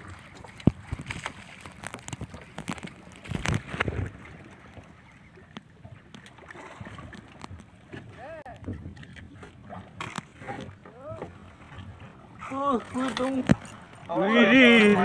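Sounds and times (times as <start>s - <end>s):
water slapping boat hull: 0.0s - 15.0s.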